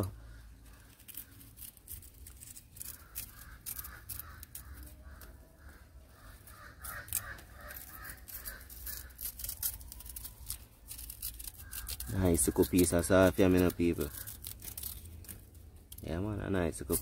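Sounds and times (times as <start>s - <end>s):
bird calling: 0.0s - 15.4s
knife scraping yam skin: 0.0s - 17.0s.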